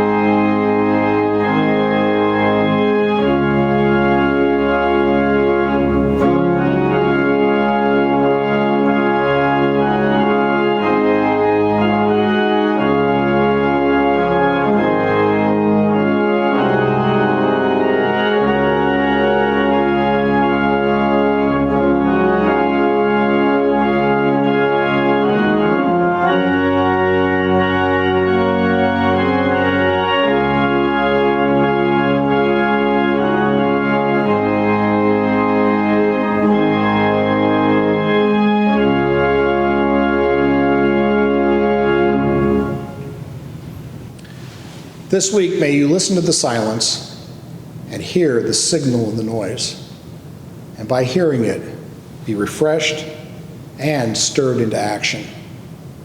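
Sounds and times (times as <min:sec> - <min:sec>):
organ playing sustained chords: 0:00.0 - 0:56.0.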